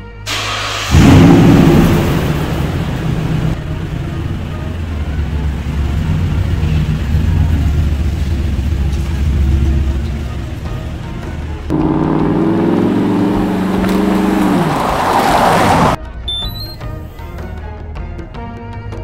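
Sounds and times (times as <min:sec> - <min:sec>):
engine exhaust rumble: 0:00.3 - 0:16.0.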